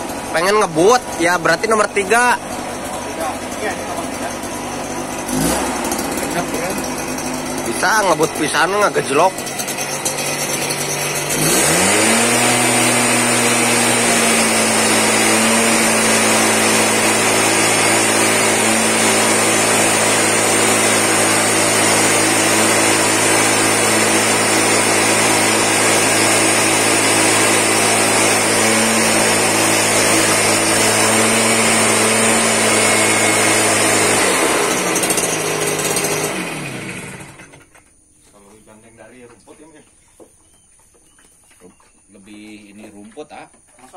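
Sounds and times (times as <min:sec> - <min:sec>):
blower air rushing: 0:00.0 - 0:37.5
mist blower engine revving: 0:00.0 - 0:37.7.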